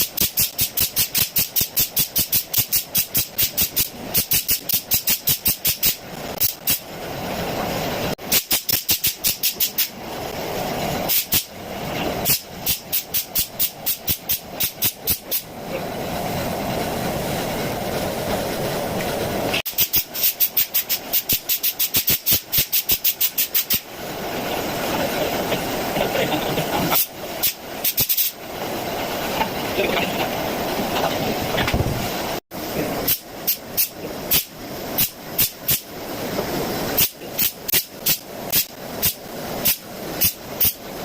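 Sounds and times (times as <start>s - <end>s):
spray gun hissing: 0.0s - 18.8s, 19.4s - 29.7s, 32.0s - 41.0s.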